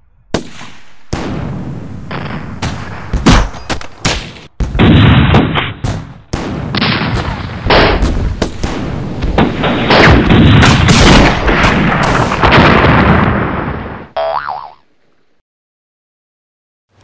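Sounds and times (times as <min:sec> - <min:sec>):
gunfire and explosions: 0:00.3 - 0:14.1.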